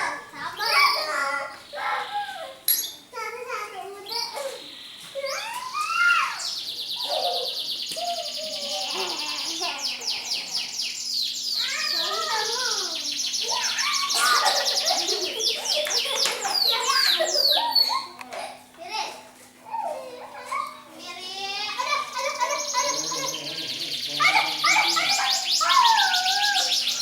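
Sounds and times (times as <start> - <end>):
canaries singing trills: 0.0 - 3.1, 3.8 - 18.2, 21.8 - 27.0.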